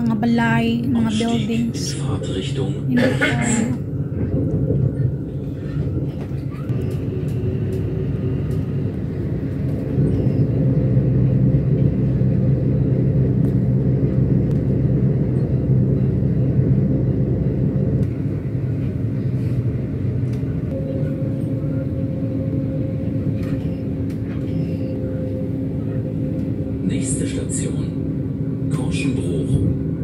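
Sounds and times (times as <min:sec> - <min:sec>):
train rumbling from inside: 0:00.0 - 0:30.0.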